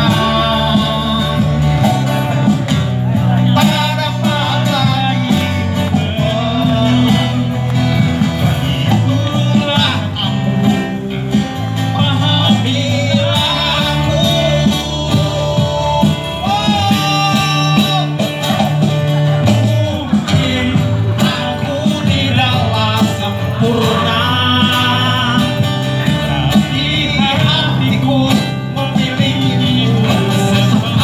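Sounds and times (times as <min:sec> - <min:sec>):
cajon beat: 0:00.0 - 0:31.0
guitar: 0:00.0 - 0:31.0
man singing into a microphone: 0:00.0 - 0:31.0.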